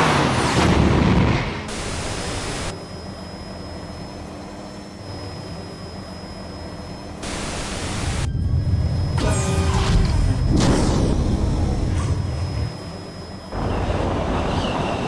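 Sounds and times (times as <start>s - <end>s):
faint high whine: 1.7s - 15.0s.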